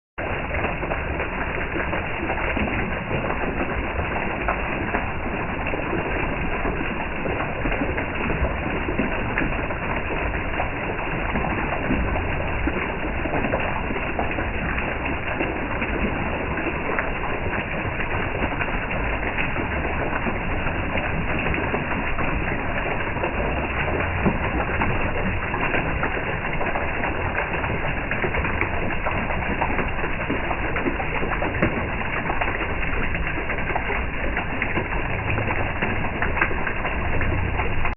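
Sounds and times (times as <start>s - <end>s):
running water: 0.2s - 37.9s
water dripping and splashing: 0.2s - 37.9s.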